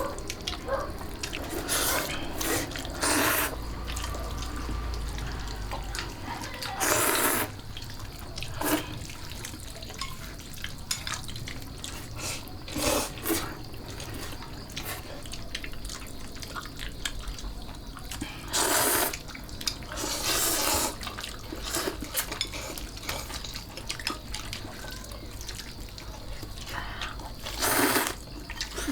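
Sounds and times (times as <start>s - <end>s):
water splashing and trickling: 0.0s - 28.9s.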